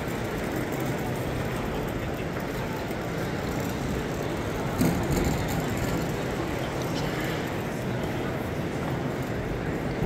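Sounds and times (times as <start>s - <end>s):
distant crowd murmur: 0.0s - 10.0s.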